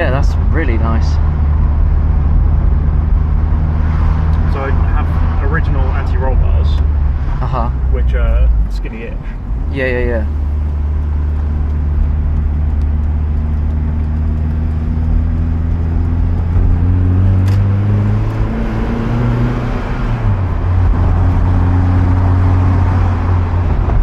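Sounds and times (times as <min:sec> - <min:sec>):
car engine running: 0:00.0 - 0:24.0
road noise: 0:00.0 - 0:24.0.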